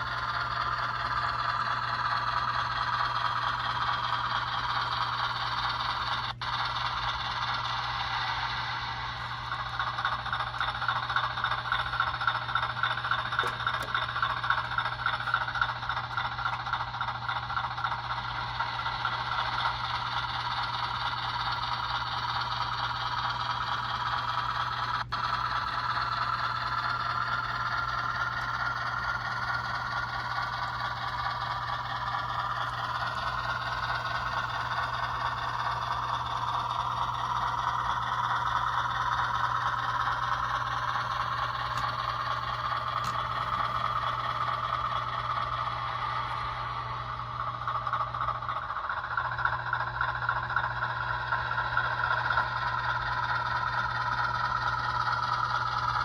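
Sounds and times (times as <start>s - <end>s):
model train wheels rattling: 0.0s - 56.0s
motor whine: 0.0s - 56.0s.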